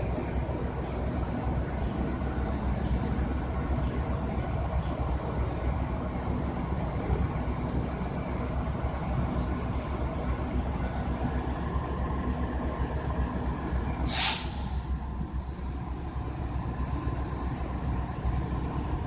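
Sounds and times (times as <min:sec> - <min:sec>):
heavy vehicle engines rumbling: 0:00.0 - 0:19.0.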